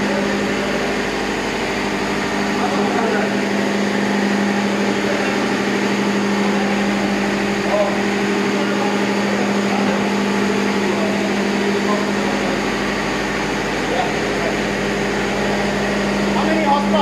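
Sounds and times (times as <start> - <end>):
engine room machinery drone: 0.0 - 17.0.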